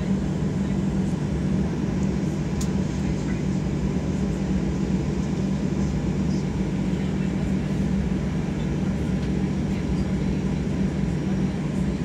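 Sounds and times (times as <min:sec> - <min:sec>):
jet engines humming: 0:00.0 - 0:12.0.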